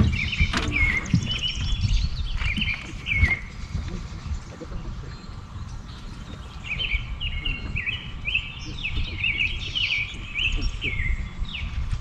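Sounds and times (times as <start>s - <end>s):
birds singing: 0.0s - 12.0s
steady low rumble: 0.0s - 12.0s.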